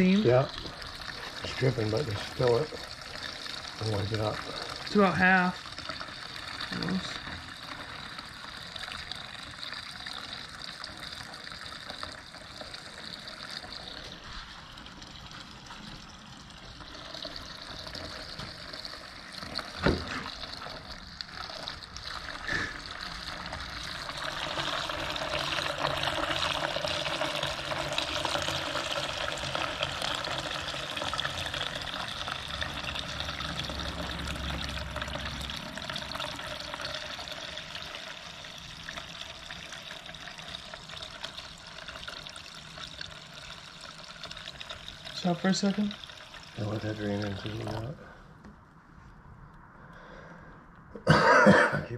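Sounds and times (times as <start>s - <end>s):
fuel trickling through a funnel: 0.0s - 48.5s, 49.4s - 50.8s.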